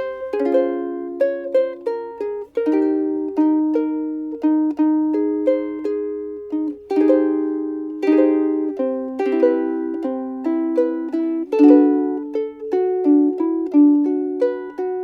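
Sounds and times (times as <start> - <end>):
ukulele plucked melody: 0.0 - 15.0.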